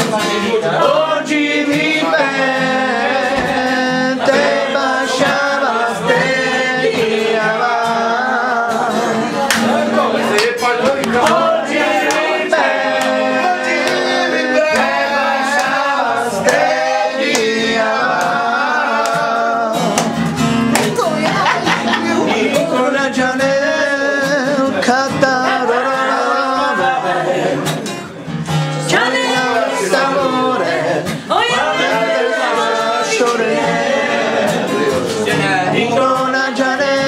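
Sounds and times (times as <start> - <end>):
man singing: 0.0 - 20.4, 21.1 - 28.0, 28.7 - 37.0
group singing: 0.0 - 37.0.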